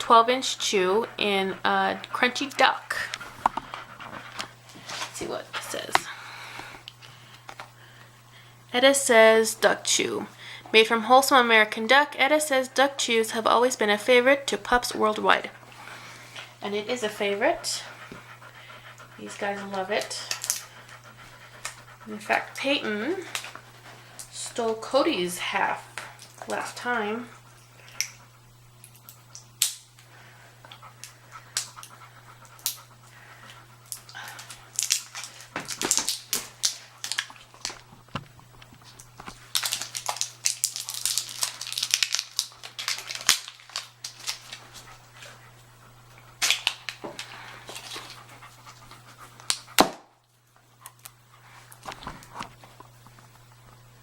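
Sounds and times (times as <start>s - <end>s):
dogs panting: 0.0s - 37.9s, 38.6s - 53.9s.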